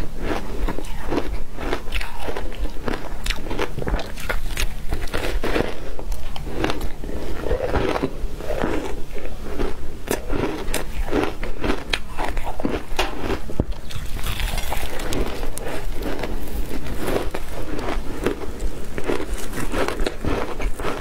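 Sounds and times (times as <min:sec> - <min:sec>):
ice crunching between teeth: 0:00.0 - 0:21.0
wet grinding of chewed ice: 0:00.0 - 0:21.0.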